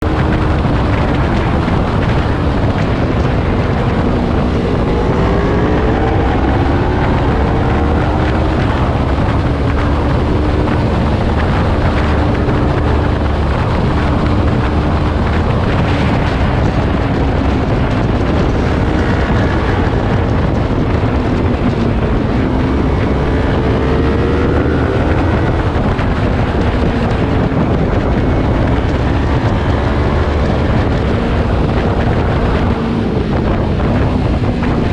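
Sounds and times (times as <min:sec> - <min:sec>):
motorcycle engine revving: 0:00.0 - 0:34.9
wind noise on microphone: 0:00.0 - 0:34.9.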